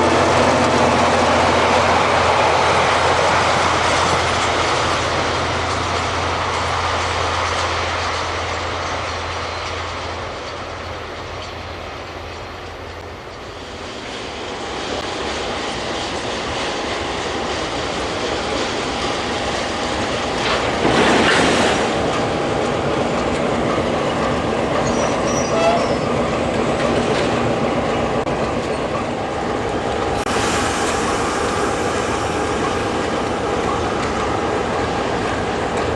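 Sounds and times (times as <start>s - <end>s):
train wheels clattering on rails: 0.0s - 35.9s.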